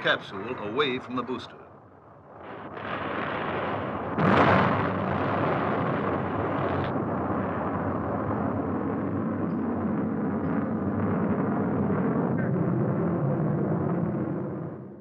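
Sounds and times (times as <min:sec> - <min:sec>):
long steady rumble: 0:00.0 - 0:15.0
rush of noise: 0:00.0 - 0:15.0
loud explosion blast: 0:02.3 - 0:15.0.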